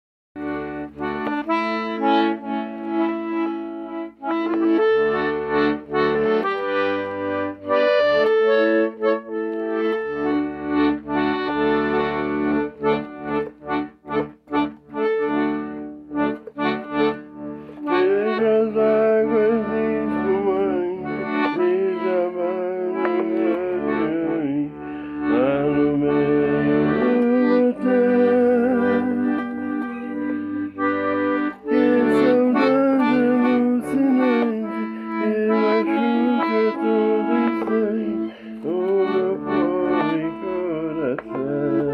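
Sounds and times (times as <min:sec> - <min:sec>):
accordion melody: 0:00.4 - 0:41.9.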